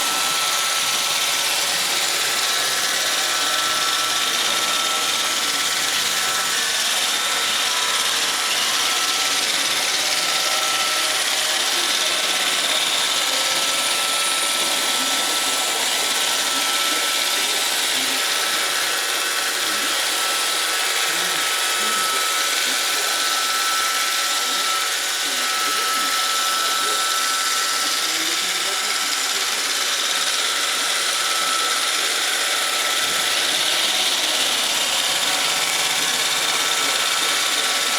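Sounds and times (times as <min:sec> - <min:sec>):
robot vacuum whirring: 0:00.0 - 0:37.9.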